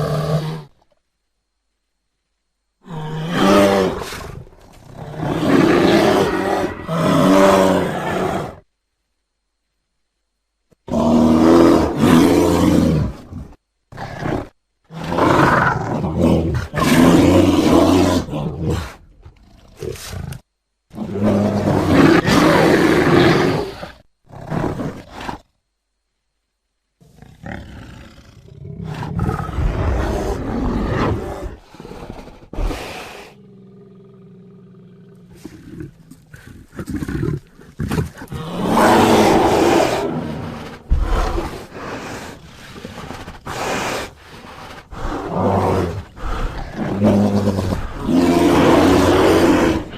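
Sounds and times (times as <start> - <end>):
bear growling and roaring: 0.0 - 0.9, 2.8 - 8.7, 10.8 - 25.5, 27.0 - 49.9.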